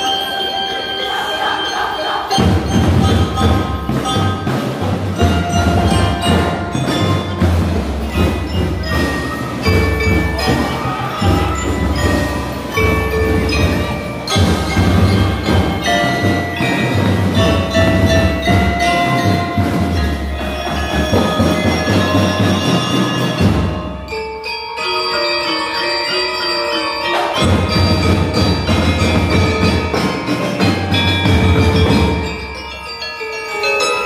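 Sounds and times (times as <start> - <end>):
drum and lyre band playing: 0.0 - 34.0
ringing mallet notes: 0.0 - 34.0.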